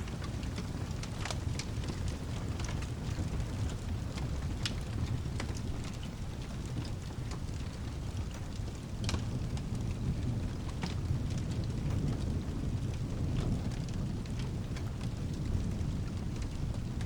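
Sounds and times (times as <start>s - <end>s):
light rain hiss: 0.0s - 17.0s
wood fire crackling: 0.0s - 17.0s.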